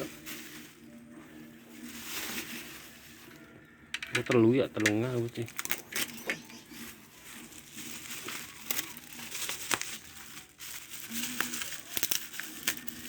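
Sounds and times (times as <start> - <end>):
crinkling material handling: 0.0 - 13.0.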